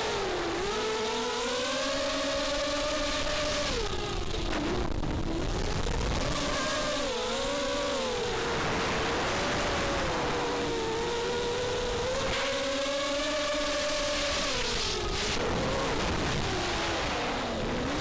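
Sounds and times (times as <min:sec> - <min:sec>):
quadcopter motors whining: 0:00.0 - 0:17.1.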